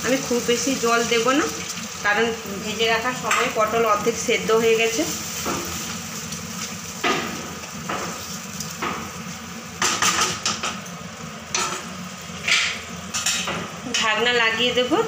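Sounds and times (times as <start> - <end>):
gravy sizzling: 0.0 - 15.0.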